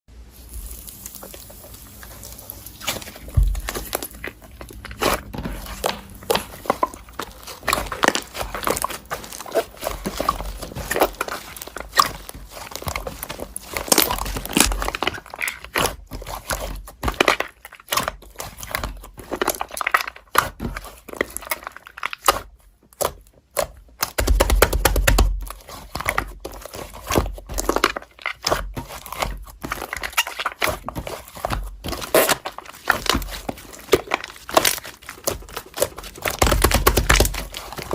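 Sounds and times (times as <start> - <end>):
crinkling and rustling: 0.1 - 37.9.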